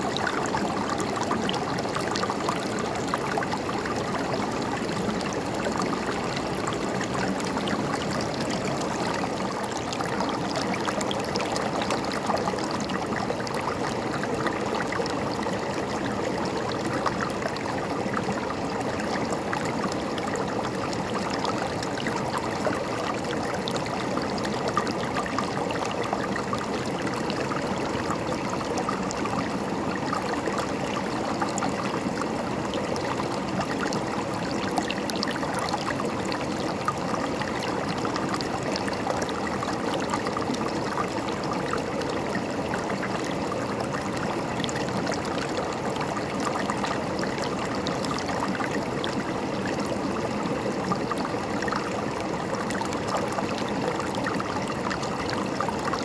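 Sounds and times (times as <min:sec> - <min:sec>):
stream gurgling over rocks: 0:00.0 - 0:56.0.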